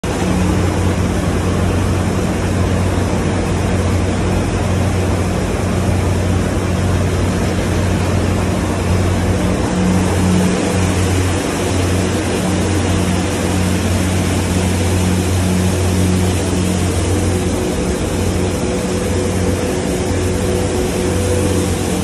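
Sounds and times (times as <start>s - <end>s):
low electric hum: 0.0s - 22.0s
seed cleaner machine running: 0.0s - 22.0s.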